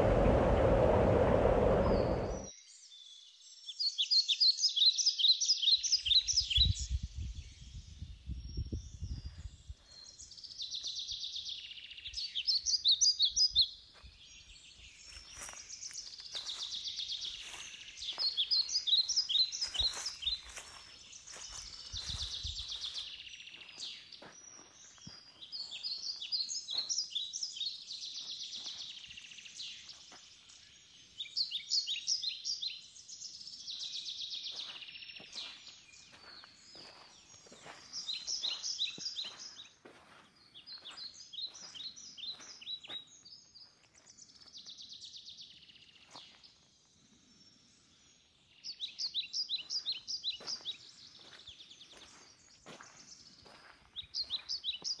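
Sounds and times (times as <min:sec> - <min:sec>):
songbird singing trills and chirps: 0:01.8 - 0:55.0.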